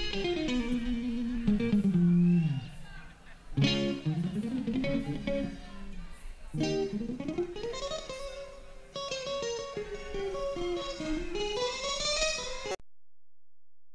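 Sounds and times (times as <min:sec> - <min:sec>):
electric guitar melody: 0:00.0 - 0:02.8, 0:03.6 - 0:12.8.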